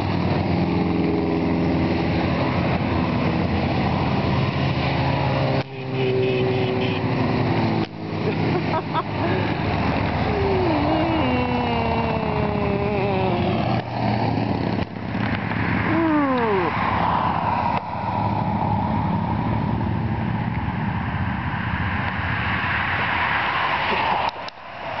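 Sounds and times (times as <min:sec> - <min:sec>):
motorcycles riding past: 0:00.0 - 0:20.2
rumble of many motorcycles: 0:00.0 - 0:25.0.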